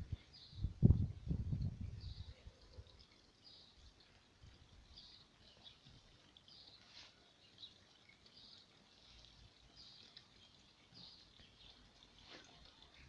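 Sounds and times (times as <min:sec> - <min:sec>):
distant small birds chirping: 0:01.9 - 0:13.0.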